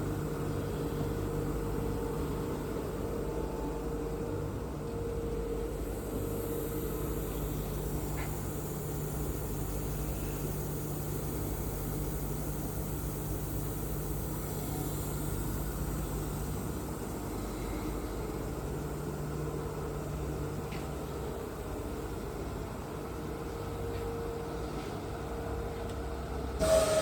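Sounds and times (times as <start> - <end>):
machine humming with high whine: 0.0 - 27.0.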